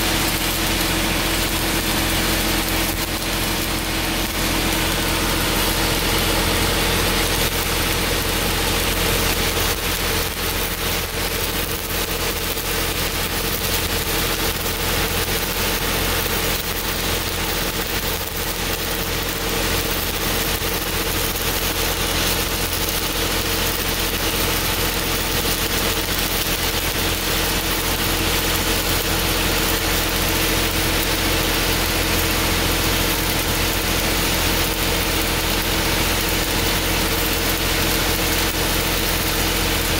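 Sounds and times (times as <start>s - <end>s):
low hum of running machinery: 0.0s - 39.9s
welding arc crackling and sizzling: 0.0s - 39.9s.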